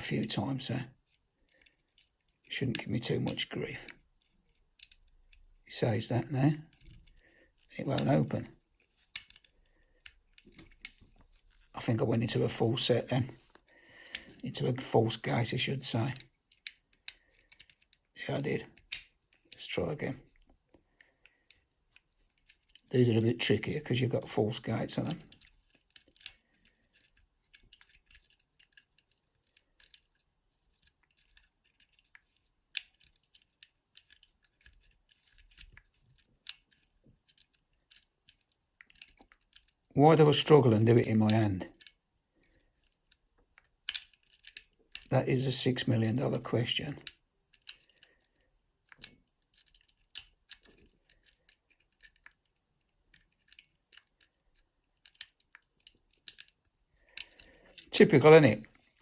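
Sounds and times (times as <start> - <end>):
lock pick clicking and scraping: 1.0 - 5.6, 6.6 - 11.7, 16.0 - 23.9, 24.6 - 39.9, 41.0 - 45.1, 45.8 - 59.0.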